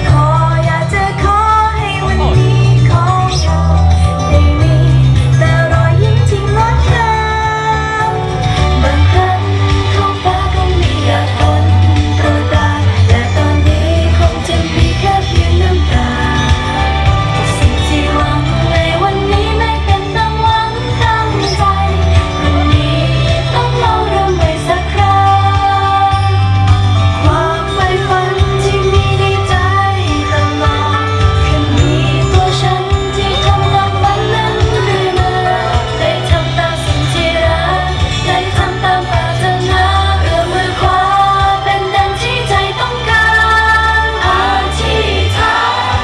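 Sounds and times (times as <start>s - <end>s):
pop backing track with bass: 0.0s - 46.0s
women singing pop song: 0.0s - 46.0s.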